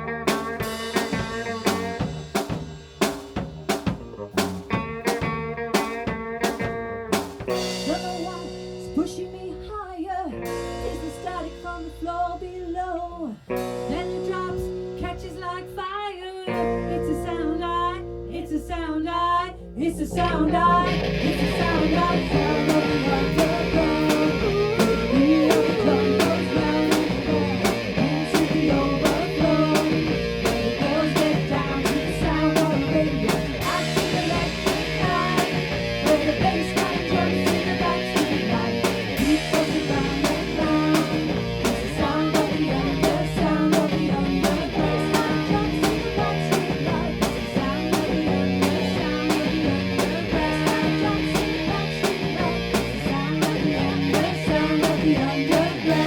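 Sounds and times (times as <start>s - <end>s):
rock band playing: 0.0s - 9.5s, 10.4s - 12.4s, 13.4s - 15.6s, 20.8s - 56.0s.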